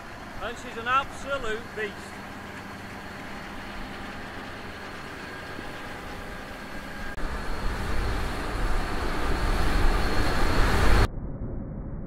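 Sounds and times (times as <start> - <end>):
combine harvester running: 0.0 - 11.1.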